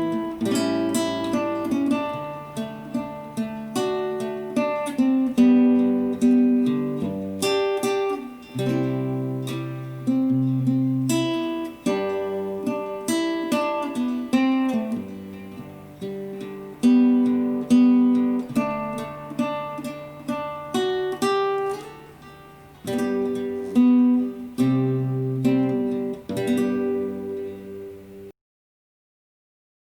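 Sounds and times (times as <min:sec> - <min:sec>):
solo acoustic guitar: 0:00.0 - 0:28.3.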